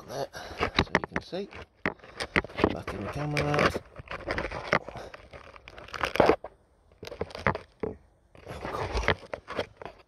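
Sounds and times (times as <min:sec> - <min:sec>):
handling scrapes and rustles: 0:00.0 - 0:10.0.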